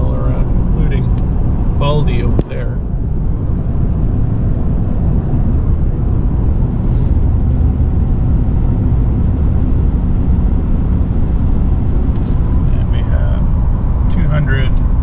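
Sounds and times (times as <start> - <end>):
tyre and wind rumble in car: 0.0 - 15.0.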